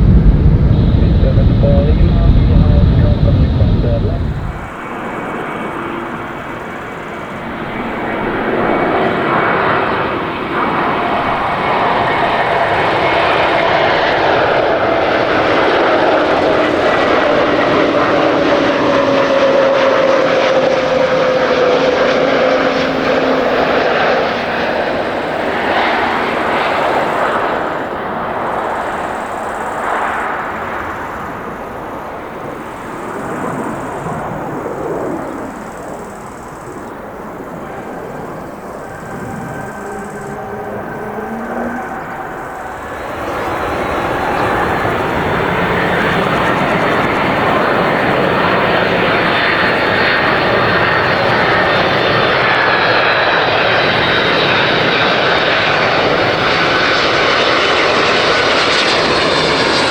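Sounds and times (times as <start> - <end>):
jet airliner engine roar: 0.0 - 59.9.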